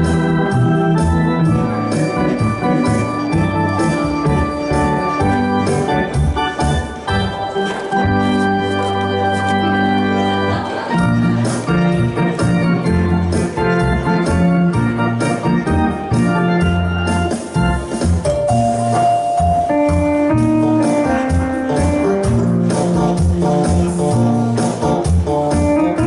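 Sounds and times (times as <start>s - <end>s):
steady accompanying beat: 0.0s - 8.7s, 10.8s - 26.0s
bass line: 0.0s - 26.0s
electronic keyboard dance tune: 0.0s - 26.0s.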